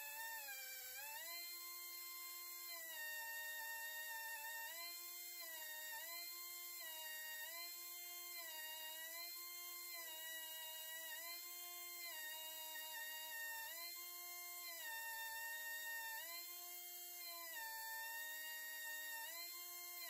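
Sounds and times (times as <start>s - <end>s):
die grinder high whine: 0.0s - 20.0s.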